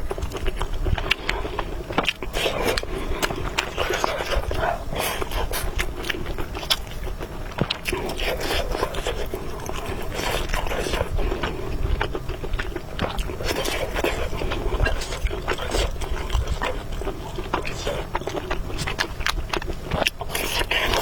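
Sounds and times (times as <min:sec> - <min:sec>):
chewing noodles and meat: 0:00.0 - 0:21.0.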